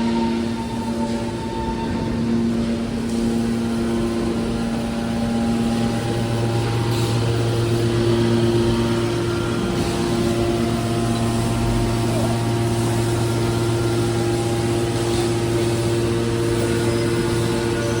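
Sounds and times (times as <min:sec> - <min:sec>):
hydraulic power unit humming: 0:00.0 - 0:18.0.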